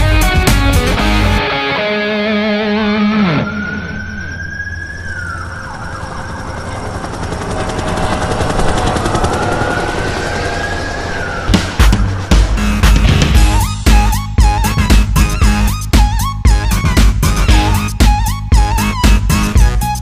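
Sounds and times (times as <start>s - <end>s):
siren wail: 1.4s - 20.0s.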